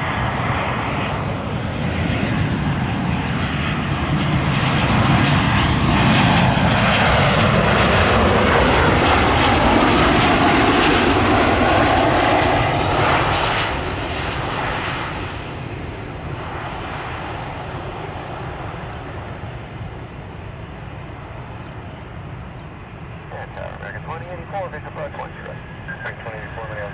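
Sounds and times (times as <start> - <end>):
jet airliner passing: 0.0 - 26.9.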